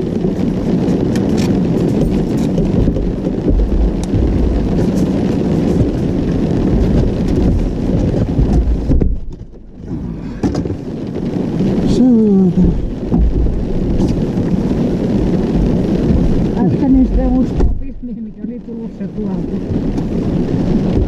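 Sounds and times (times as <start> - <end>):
car driving on wet road: 0.0 - 21.0
raindrops ticking on windshield: 0.0 - 21.0.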